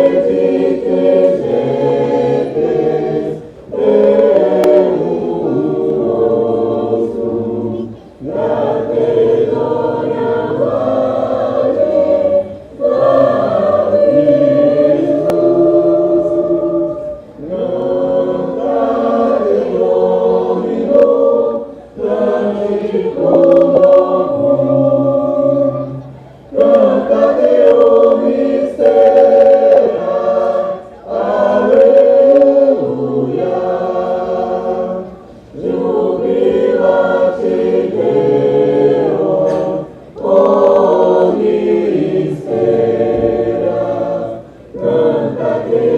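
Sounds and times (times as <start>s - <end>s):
choir singing: 0.0s - 45.9s.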